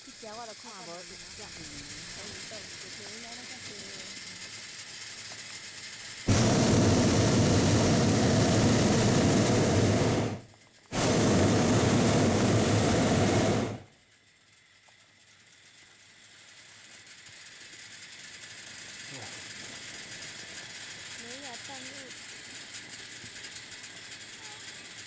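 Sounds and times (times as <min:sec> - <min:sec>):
propane burner blasts: 0:00.0 - 0:14.0, 0:17.3 - 0:25.0.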